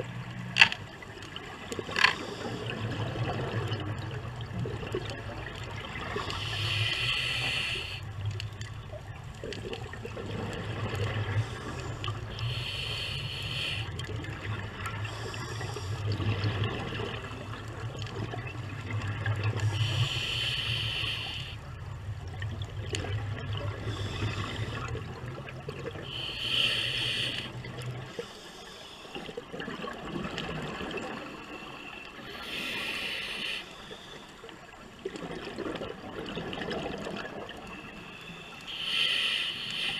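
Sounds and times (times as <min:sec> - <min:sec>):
exhaled bubbles underwater: 0:00.0 - 0:28.3, 0:29.1 - 0:39.9.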